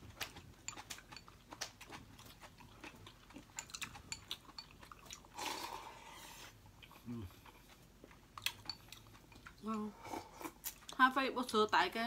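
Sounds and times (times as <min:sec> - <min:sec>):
chewing: 0:00.0 - 0:11.1.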